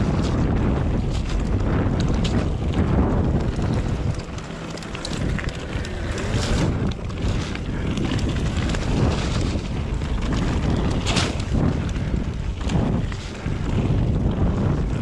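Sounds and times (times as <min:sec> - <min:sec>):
bike rattles and clicks: 0:00.0 - 0:15.0
bike tyres rumbling on trail: 0:00.0 - 0:15.0
wind buffeting microphone: 0:00.0 - 0:15.0.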